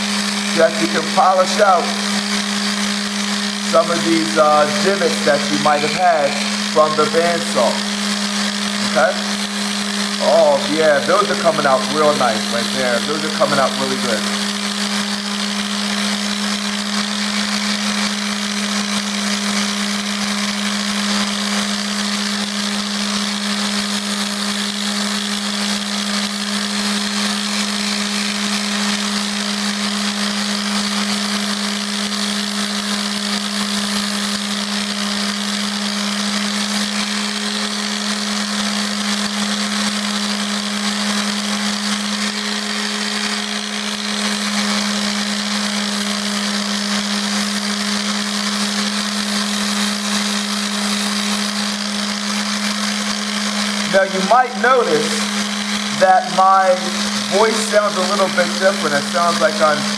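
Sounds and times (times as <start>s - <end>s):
orbital sander sanding wood: 0.0s - 59.9s.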